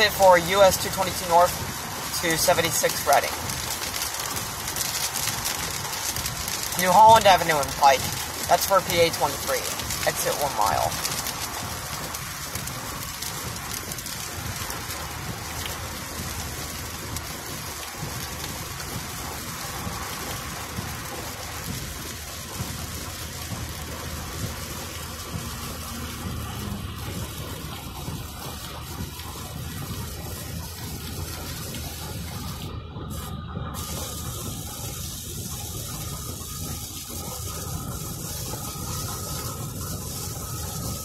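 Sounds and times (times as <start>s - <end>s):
heavy rain: 0.0s - 41.0s
low road rumble: 0.0s - 41.0s
tyre spray on wet road: 0.0s - 41.0s.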